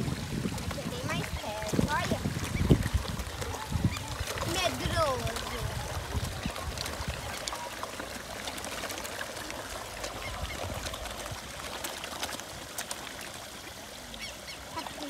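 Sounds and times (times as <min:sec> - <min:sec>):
fish splashing at surface: 0:00.0 - 0:15.0
small waterfall running: 0:00.0 - 0:15.0.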